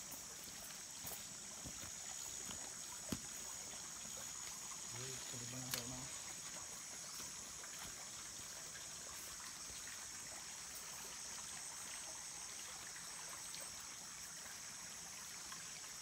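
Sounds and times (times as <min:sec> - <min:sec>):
stream trickling over rocks: 0:00.0 - 0:16.0.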